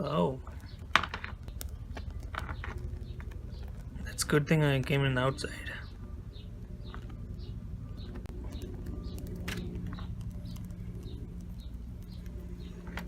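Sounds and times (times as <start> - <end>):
bird chirping: 0.0 - 13.0
steady low hum: 0.0 - 13.0.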